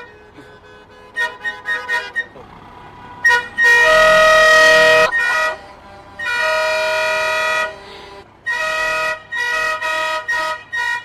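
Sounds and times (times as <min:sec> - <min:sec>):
truck horn honking: 0:00.0 - 0:11.0.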